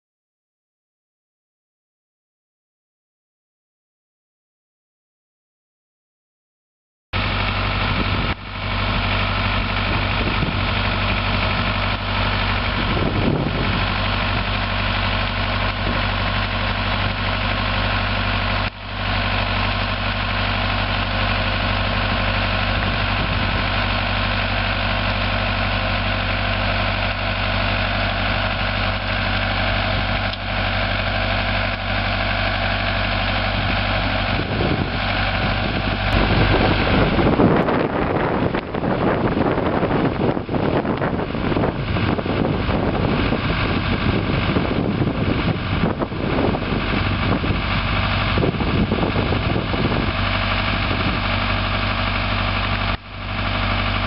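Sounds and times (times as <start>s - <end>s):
tractor engine running: 7.2s - 54.0s.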